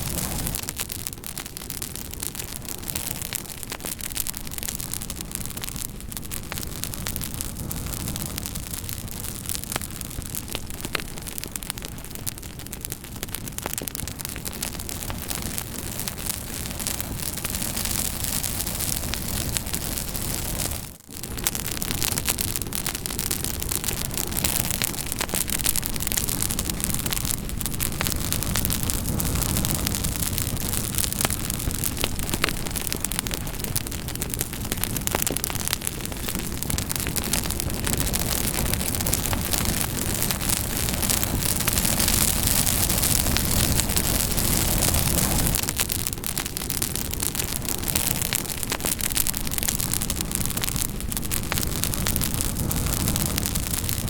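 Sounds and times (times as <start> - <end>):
campfire crackling: 0.0 - 54.0
fire pops and snaps: 0.0 - 54.0.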